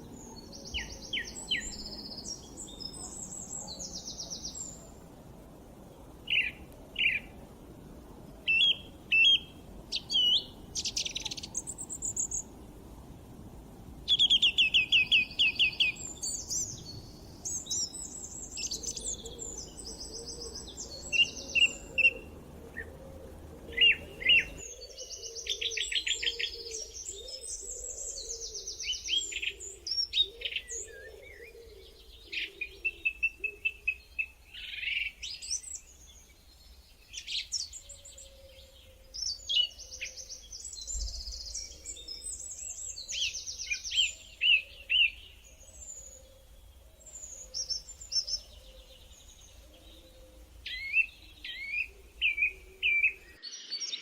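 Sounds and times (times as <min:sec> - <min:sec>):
faint background hiss: 0:00.0 - 0:54.0
songbirds chirping and trilling: 0:00.0 - 0:54.0.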